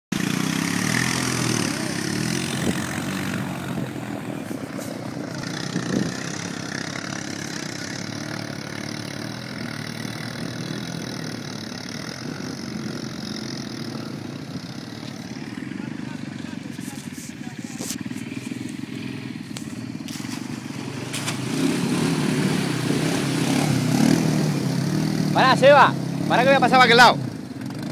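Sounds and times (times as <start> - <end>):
quad bike engine running: 0.1 - 27.9.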